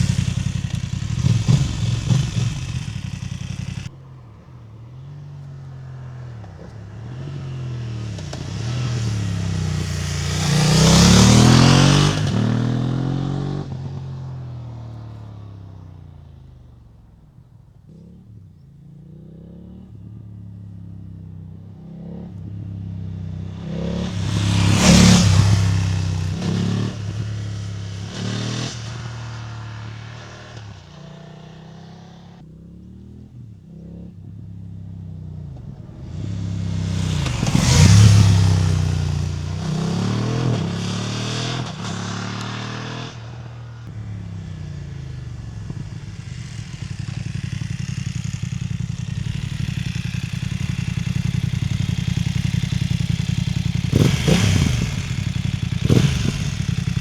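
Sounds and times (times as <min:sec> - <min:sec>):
motorcycle riding past: 0:00.0 - 0:57.0.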